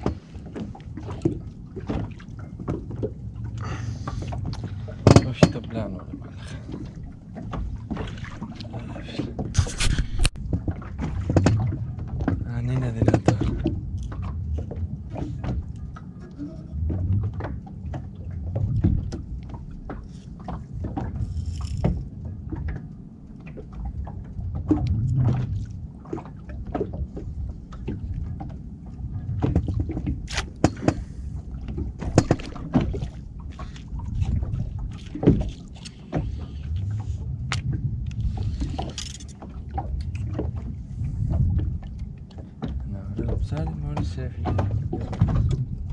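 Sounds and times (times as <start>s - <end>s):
knocks and clicks from boat gear: 0.0s - 45.9s
water washing against hull: 0.0s - 45.9s.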